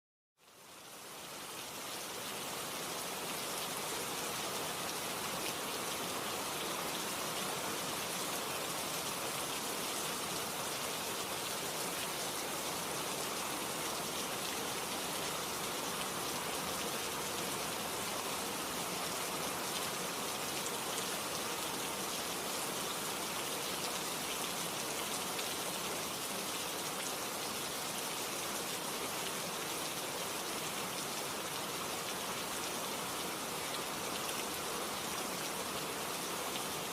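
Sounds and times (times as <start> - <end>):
rain pattering on a surface: 0.4 - 36.9.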